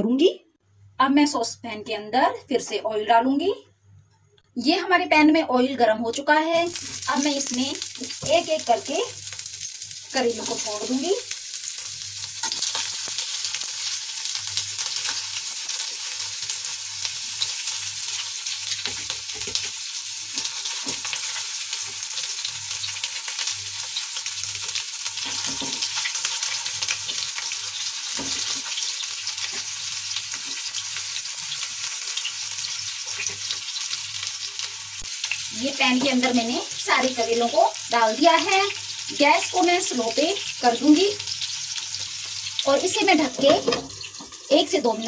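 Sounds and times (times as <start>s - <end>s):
food sizzling in hot oil: 6.5s - 45.0s.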